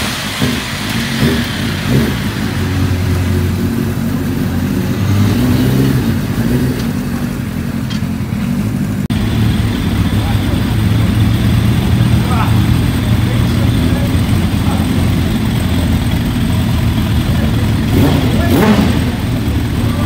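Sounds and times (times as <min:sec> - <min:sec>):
motorcycle engine revving and idling: 0:00.0 - 0:20.0
roller starter: 0:00.0 - 0:20.0.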